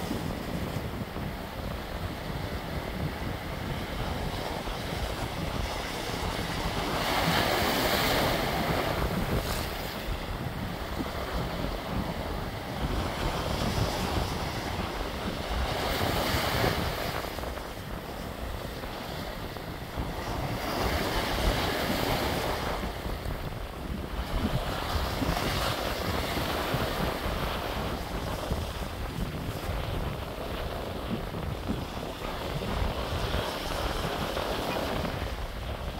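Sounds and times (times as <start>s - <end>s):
waves washing onto rocky shore: 0.0s - 35.9s
wind buffeting microphone: 0.0s - 35.9s.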